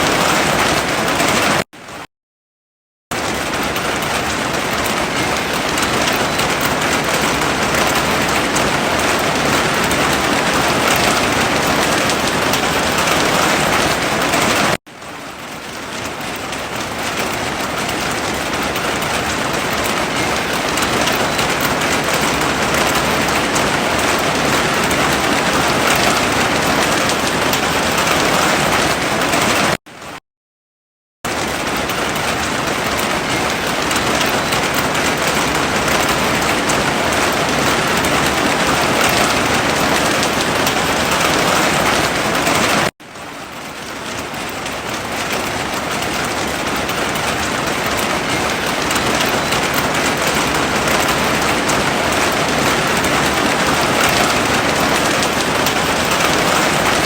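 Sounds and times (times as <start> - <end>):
heavy rain falling: 0.0 - 2.0, 3.1 - 30.2, 31.3 - 57.0.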